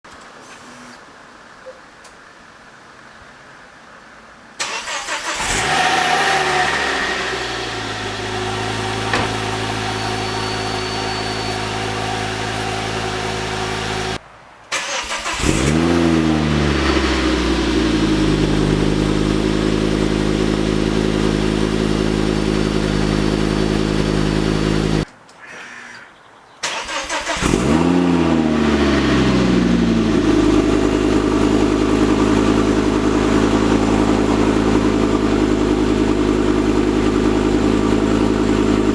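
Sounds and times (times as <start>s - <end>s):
car engine starting and idling: 4.6s - 25.1s, 26.6s - 38.9s.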